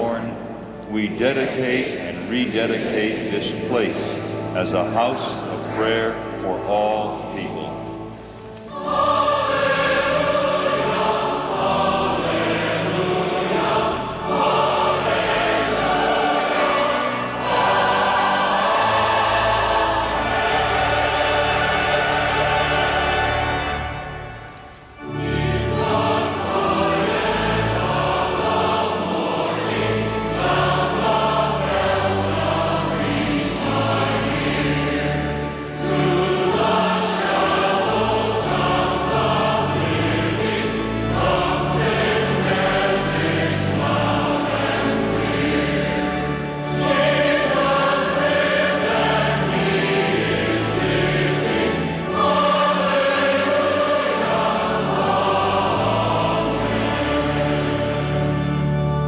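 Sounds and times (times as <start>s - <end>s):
choir singing with instruments: 0.0s - 59.0s.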